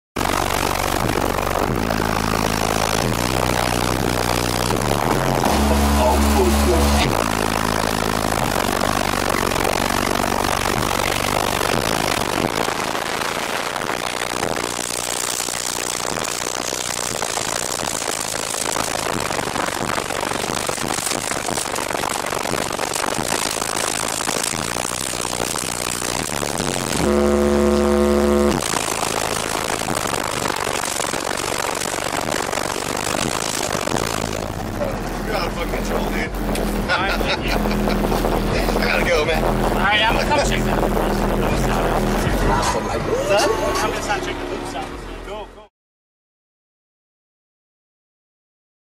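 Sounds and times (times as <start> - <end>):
distorted low bass note: 0.2 - 45.7
low bass notes: 0.2 - 45.7.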